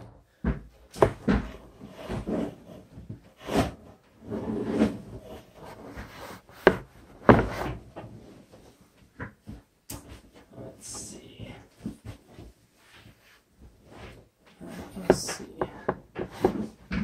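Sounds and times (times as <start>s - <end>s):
knocks and rustling of handling: 0.0s - 10.5s, 11.1s - 17.0s.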